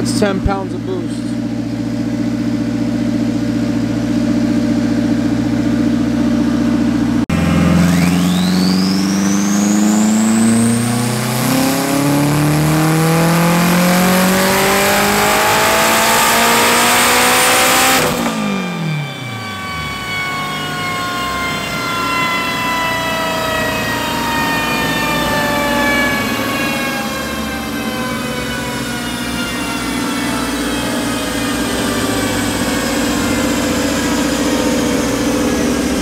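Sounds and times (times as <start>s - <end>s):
falling whine coasting down: 0.0s - 36.0s
turbocharged car engine revving: 0.0s - 36.0s.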